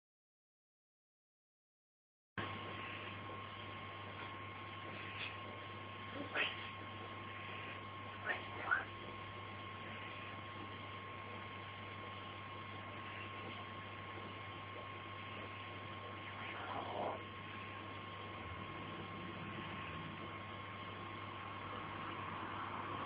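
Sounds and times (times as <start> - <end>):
electrical hum with hiss: 2.4 - 23.0.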